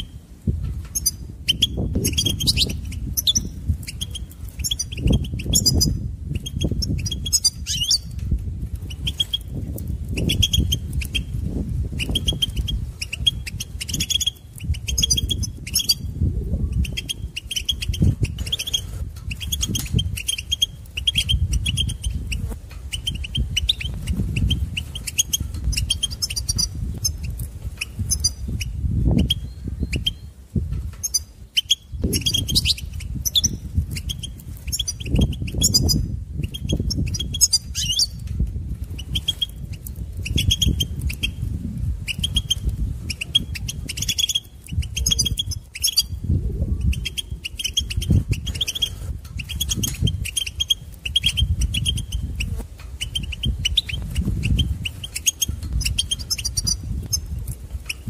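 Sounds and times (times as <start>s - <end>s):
finch twittering high chirps: 0.8s - 8.2s, 8.8s - 30.3s, 30.9s - 58.0s.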